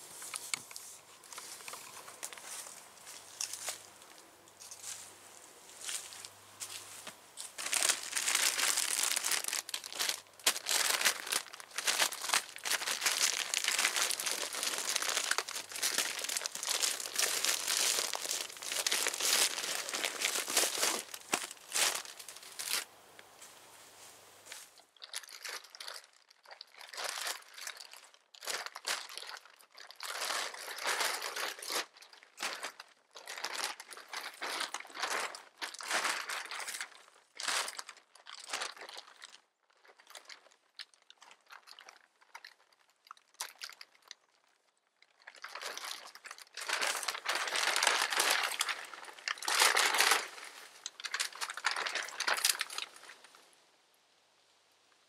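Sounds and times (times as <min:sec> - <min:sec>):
plastic tarp crinkling and rustling: 0:00.0 - 0:05.1, 0:05.8 - 0:53.4.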